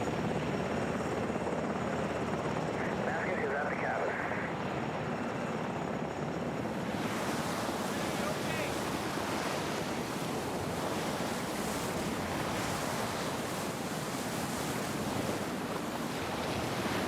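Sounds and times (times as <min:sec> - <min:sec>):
rough sea: 0:00.0 - 0:17.0.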